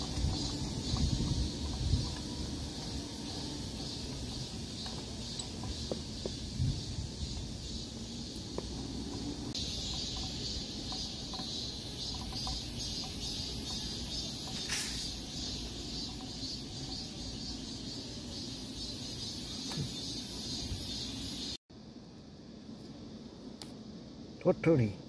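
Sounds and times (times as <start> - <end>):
insects shrilling: 0.0 - 21.6.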